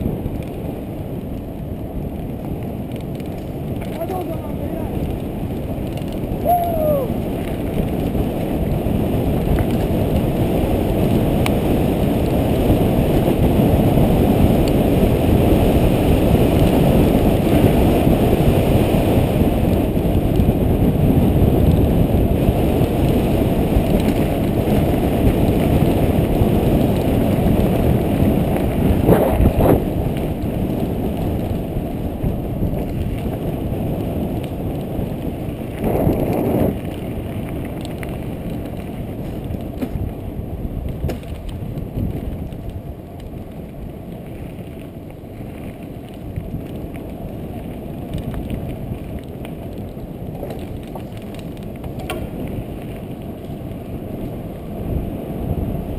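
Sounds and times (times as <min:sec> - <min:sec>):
bike tyres rattling over dirt: 0:00.0 - 0:55.9
wind buffeting microphone: 0:00.0 - 0:55.9.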